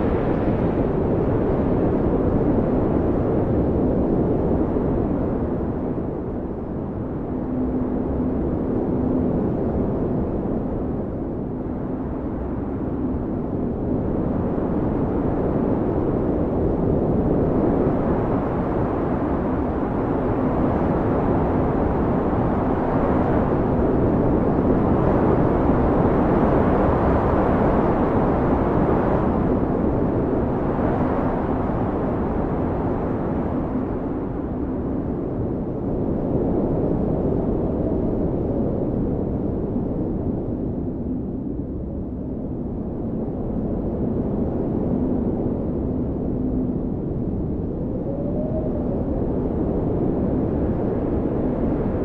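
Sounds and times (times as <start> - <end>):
blizzard wind rushing: 0.0 - 52.0.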